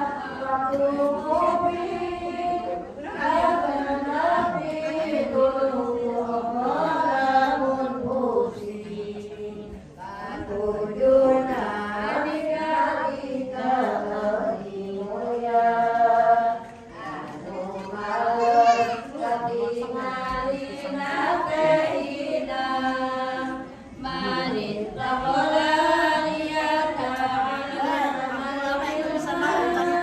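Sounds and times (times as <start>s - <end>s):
women chanting together: 0.0s - 30.0s.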